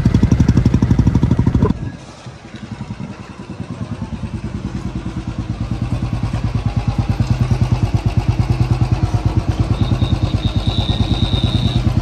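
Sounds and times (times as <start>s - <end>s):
motorcycle engine idling: 0.0s - 1.8s, 2.5s - 12.0s.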